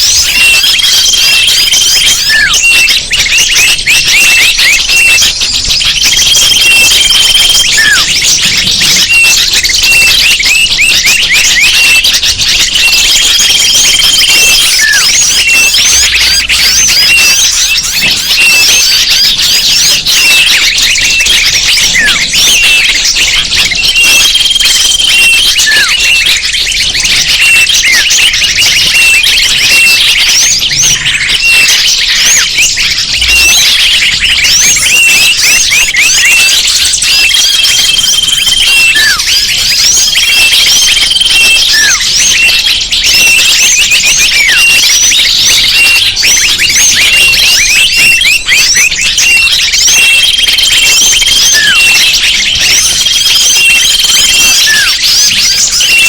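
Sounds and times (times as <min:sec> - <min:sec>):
long held whistle: 0:00.0 - 0:05.2, 0:06.0 - 0:08.4, 0:09.0 - 0:26.5, 0:27.3 - 0:56.0
chorus of small birds chirping: 0:00.0 - 0:56.0.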